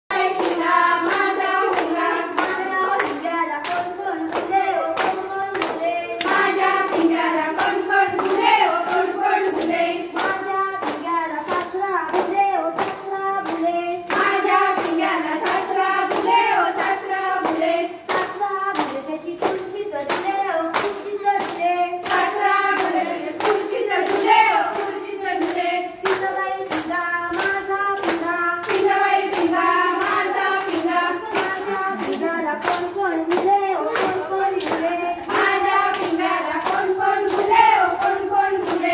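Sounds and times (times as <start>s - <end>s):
women singing folk song: 0.1s - 38.9s
quick hand clapping: 0.2s - 38.9s.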